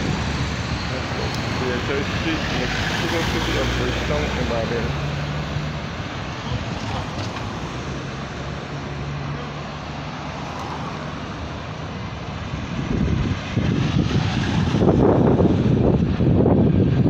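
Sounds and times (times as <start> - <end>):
cars driving past: 0.0 - 16.6.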